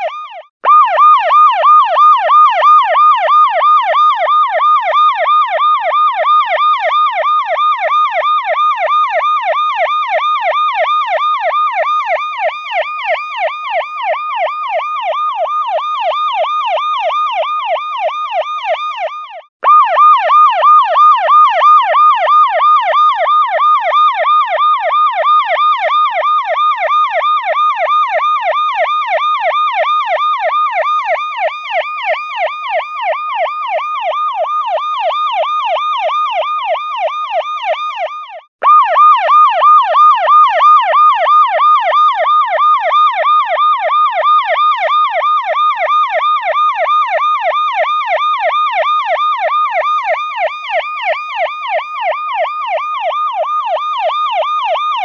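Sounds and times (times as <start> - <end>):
electronic siren wailing: 0.0 - 55.0.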